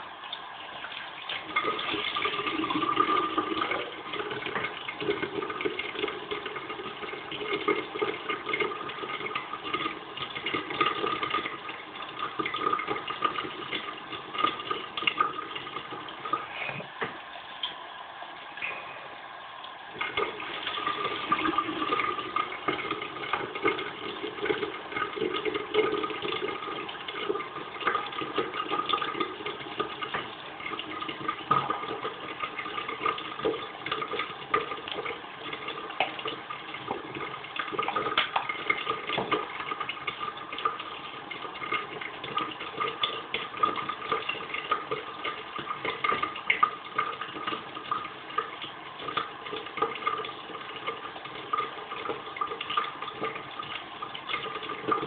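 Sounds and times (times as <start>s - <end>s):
tap water running into sink: 0.0s - 55.0s
water splashing: 0.0s - 55.0s.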